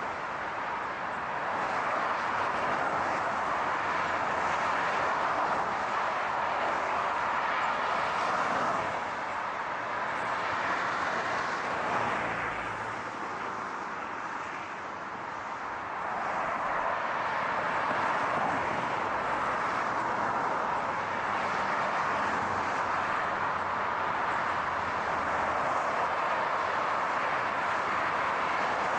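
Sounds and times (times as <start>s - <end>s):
car and road rushing noise: 0.0s - 28.9s.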